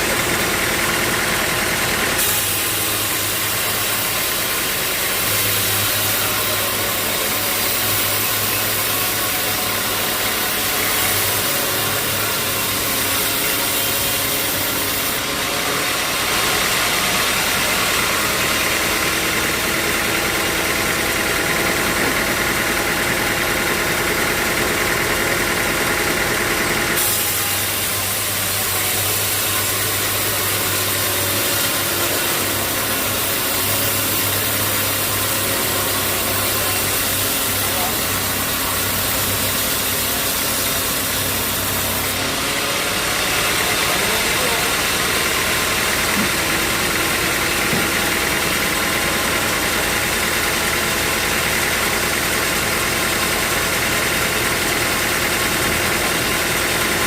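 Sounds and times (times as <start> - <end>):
bright harsh sawing sound: 0.0 - 57.0
sawmill machinery humming: 0.0 - 57.0.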